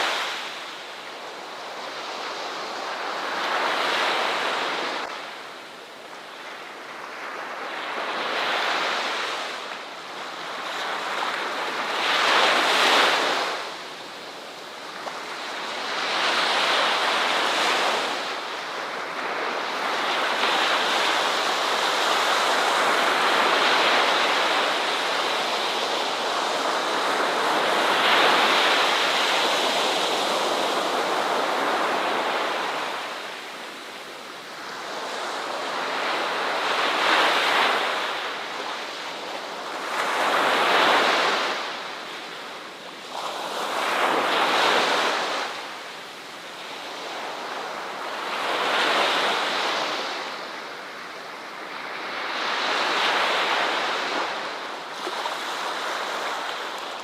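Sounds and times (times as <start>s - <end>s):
ocean waves washing onto shore: 0.0s - 57.0s.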